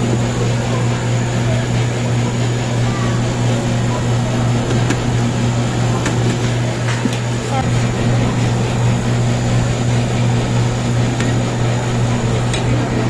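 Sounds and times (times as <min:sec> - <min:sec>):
compressor and fan humming: 0:00.0 - 0:13.0.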